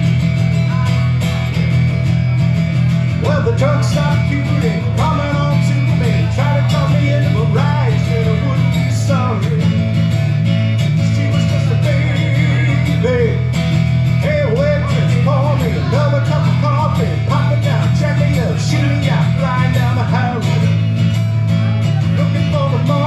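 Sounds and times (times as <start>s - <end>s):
acoustic guitar strumming: 0.0s - 23.0s
man singing: 3.0s - 10.0s, 10.6s - 21.0s, 21.8s - 23.0s.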